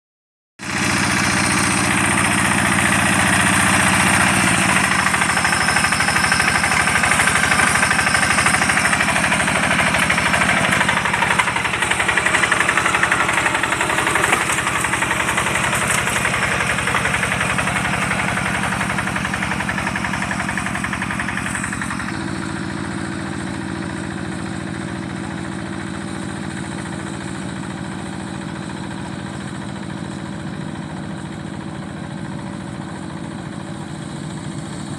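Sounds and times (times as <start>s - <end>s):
tractor engine running: 0.6s - 34.9s.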